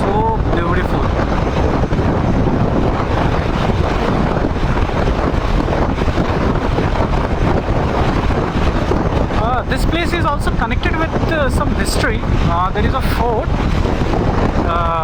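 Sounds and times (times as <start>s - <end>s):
motorcycle engine running: 0.0s - 15.0s
road noise: 0.0s - 15.0s
wind buffeting microphone: 0.0s - 15.0s.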